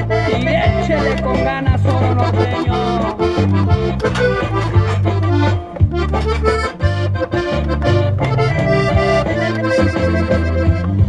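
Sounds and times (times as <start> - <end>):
accordion bass pulsing: 0.0 - 11.0
button accordion melody: 0.0 - 11.0.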